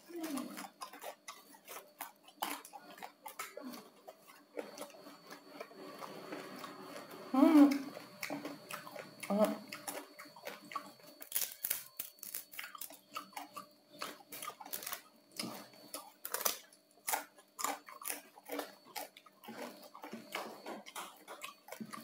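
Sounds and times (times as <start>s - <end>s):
chewing crispy pork: 0.0s - 22.0s.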